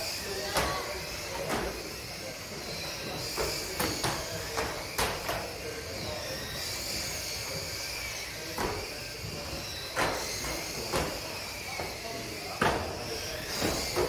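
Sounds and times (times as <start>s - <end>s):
model car motors whining: 0.0s - 14.0s.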